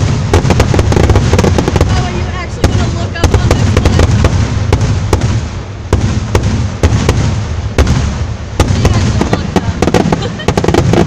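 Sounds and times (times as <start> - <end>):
firework shell bangs: 0.0 - 11.0
low rumble of fireworks booms: 0.0 - 11.0.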